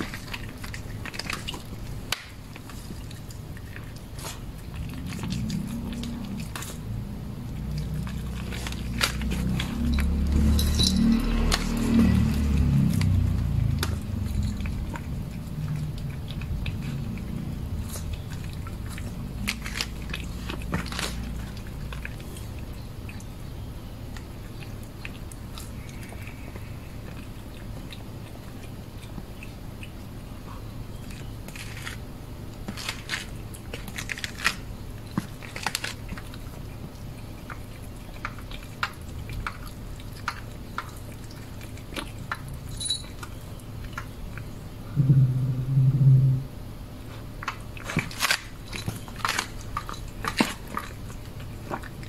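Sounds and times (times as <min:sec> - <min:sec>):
cat crunching food: 0:00.0 - 0:44.7, 0:47.1 - 0:52.0
steady low hum: 0:00.0 - 0:52.0.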